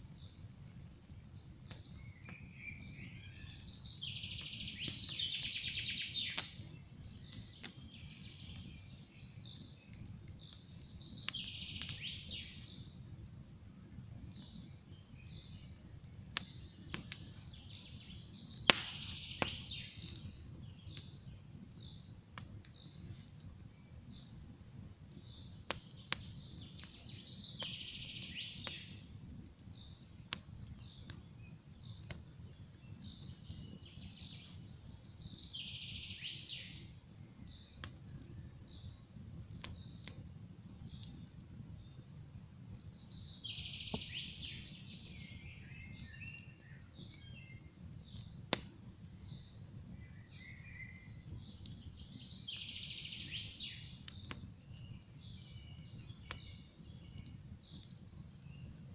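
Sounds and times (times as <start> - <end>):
campfire crackling and popping: 0.0 - 58.9
songbirds singing: 0.0 - 58.9.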